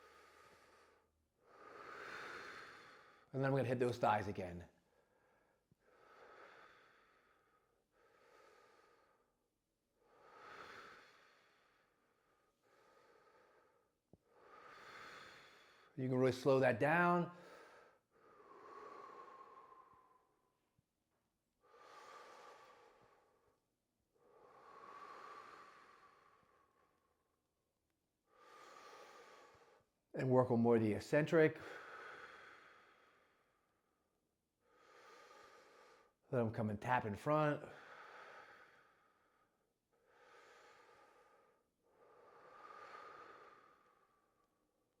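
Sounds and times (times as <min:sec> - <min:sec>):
man breathing softly: 0:00.0 - 0:03.3, 0:04.7 - 0:16.0, 0:17.0 - 0:27.6, 0:28.2 - 0:30.0, 0:31.6 - 0:36.3, 0:37.6 - 0:45.0.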